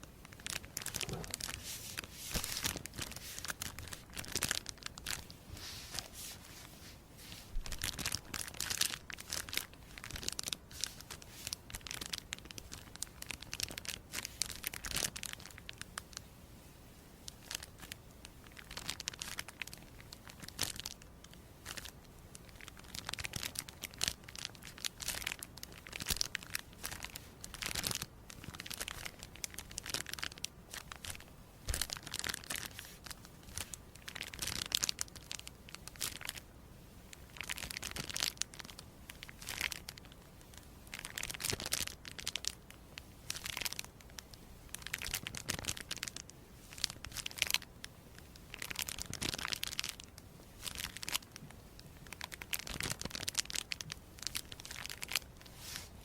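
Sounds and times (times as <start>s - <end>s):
crisp material crinkling and tearing: 0.3s - 16.1s, 17.3s - 36.4s, 37.2s - 56.0s.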